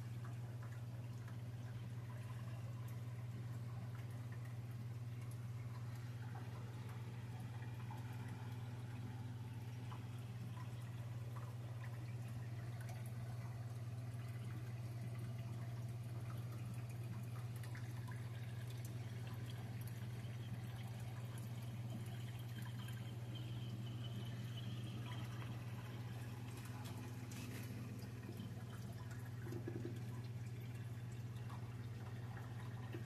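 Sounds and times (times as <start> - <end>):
water trickling and dripping: 0.0 - 33.0.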